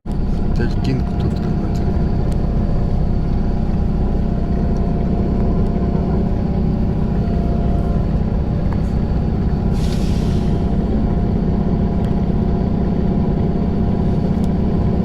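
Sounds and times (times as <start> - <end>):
bus engine drone from inside: 0.0 - 15.0.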